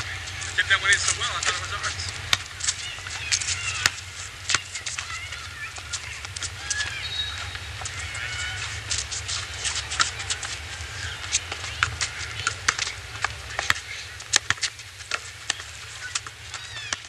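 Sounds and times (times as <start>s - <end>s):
basketball bouncing on asphalt: 0.0s - 17.0s
players' feet on court: 0.0s - 17.0s
steady low hum: 0.0s - 17.0s.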